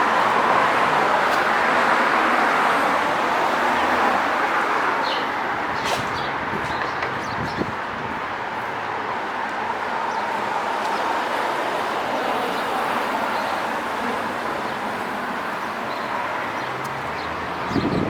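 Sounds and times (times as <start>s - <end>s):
traffic tyres and engines hiss: 0.0s - 18.0s.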